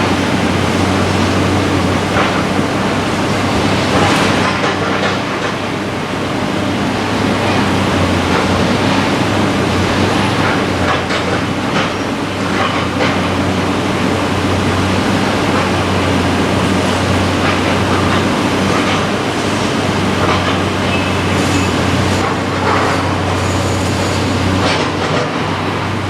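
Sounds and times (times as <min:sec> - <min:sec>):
low machine drone: 0:00.0 - 0:26.0.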